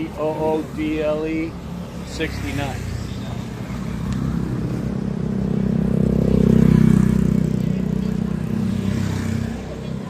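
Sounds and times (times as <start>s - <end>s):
vehicle engine passing by: 1.7s - 10.0s.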